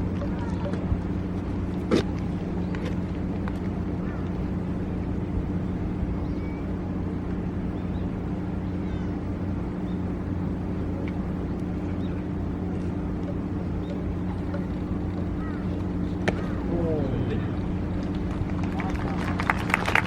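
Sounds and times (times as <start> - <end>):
distant voices and calls: 0.0 - 20.0
steady low hum: 0.0 - 20.0.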